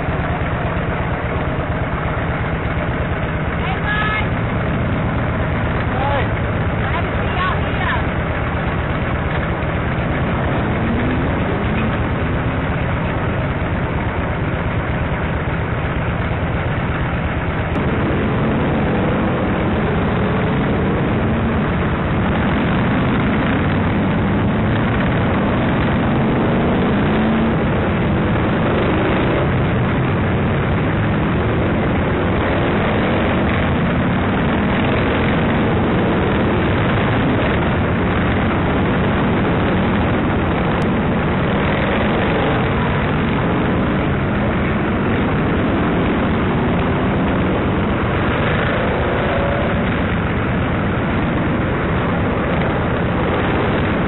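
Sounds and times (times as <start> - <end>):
motorcycle engine running: 0.0 - 54.0
other motorcycle engines: 0.0 - 54.0.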